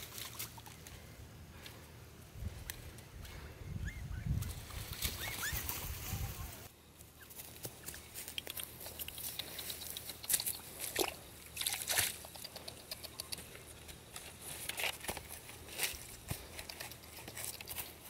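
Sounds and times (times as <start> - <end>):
rustling and crackling in grass: 0.0 - 3.5, 4.3 - 18.0.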